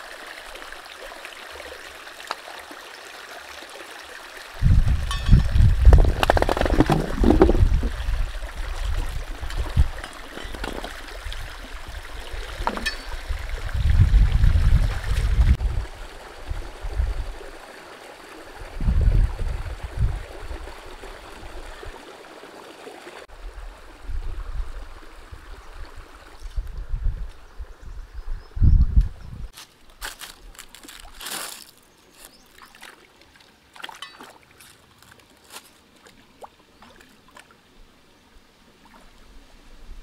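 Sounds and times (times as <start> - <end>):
stream trickling over rocks: 0.0 - 27.5, 29.5 - 40.0.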